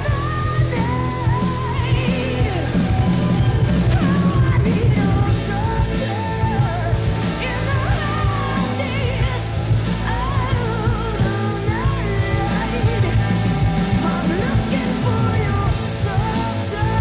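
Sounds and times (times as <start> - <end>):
rock band playing: 0.0 - 17.0
steady drum beat: 0.0 - 17.0
woman singing with vibrato: 0.0 - 17.0.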